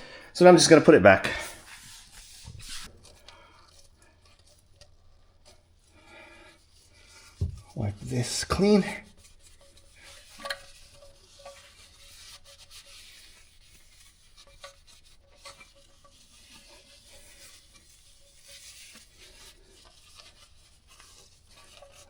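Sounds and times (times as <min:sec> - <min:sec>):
rag rubbing car part: 0:01.3 - 0:22.0.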